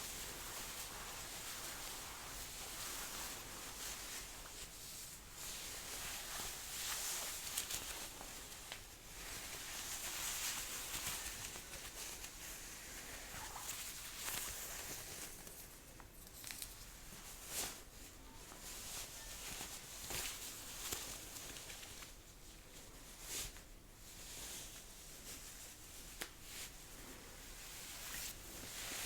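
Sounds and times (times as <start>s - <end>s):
fabric rustling: 0.0s - 29.0s.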